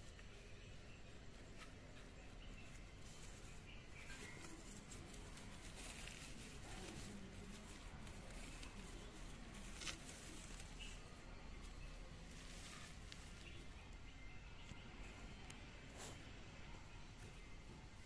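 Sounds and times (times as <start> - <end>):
small crackles: 0.0 - 16.2
rustling dry fibre: 0.0 - 18.0.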